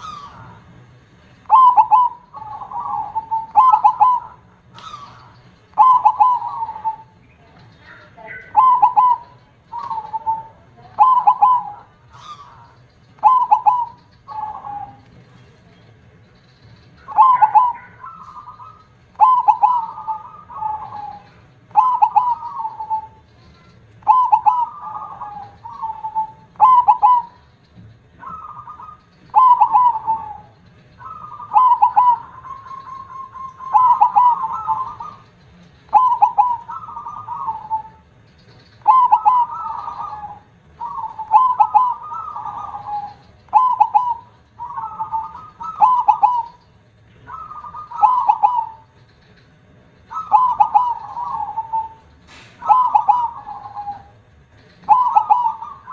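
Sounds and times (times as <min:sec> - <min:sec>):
dove cooing: 0:00.0 - 0:15.7, 0:16.8 - 0:55.9.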